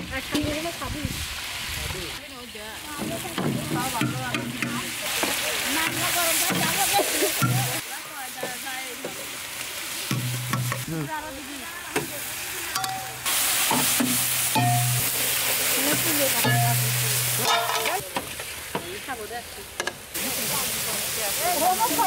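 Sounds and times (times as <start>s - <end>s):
paste sizzling in hot oil: 0.0s - 22.0s.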